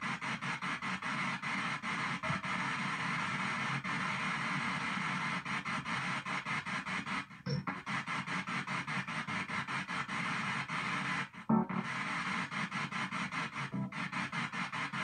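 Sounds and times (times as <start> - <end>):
radio static bursts: 0.0 - 15.0.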